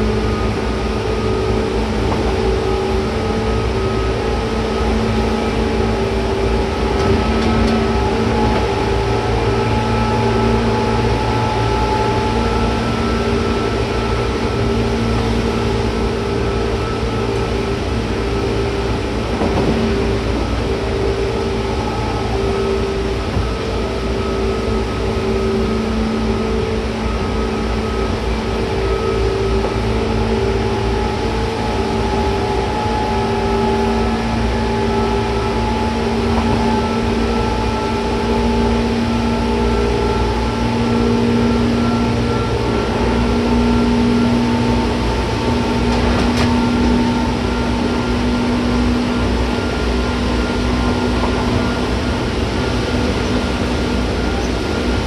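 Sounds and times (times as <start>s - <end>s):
train motor hum: 0.0s - 55.0s
train wheels rumbling on rail: 0.0s - 55.0s.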